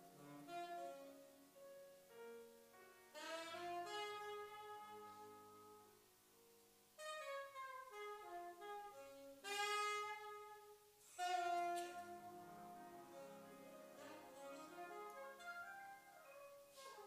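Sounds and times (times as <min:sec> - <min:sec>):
grand piano accompaniment: 0:00.0 - 0:17.0
saxophone melody: 0:00.0 - 0:17.0.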